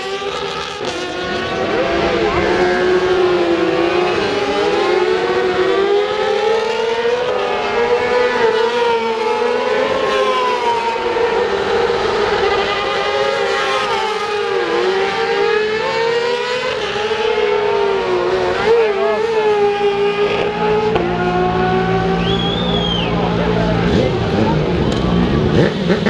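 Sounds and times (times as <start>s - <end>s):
racing motorcycles at high revs: 0.0s - 26.0s.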